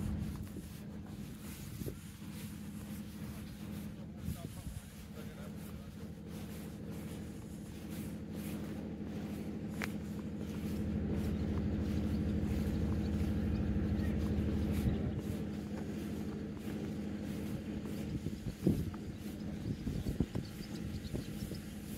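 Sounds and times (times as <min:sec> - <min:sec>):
motor engine humming: 0:00.0 - 0:21.9.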